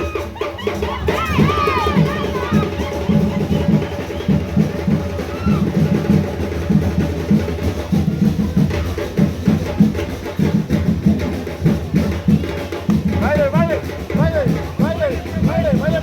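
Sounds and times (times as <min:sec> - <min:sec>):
marching band drums: 0:00.0 - 0:16.0.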